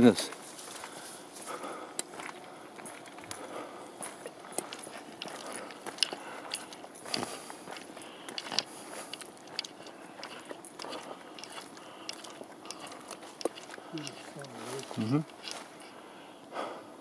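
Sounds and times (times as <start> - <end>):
footsteps on dirt trail: 0.0 - 16.1.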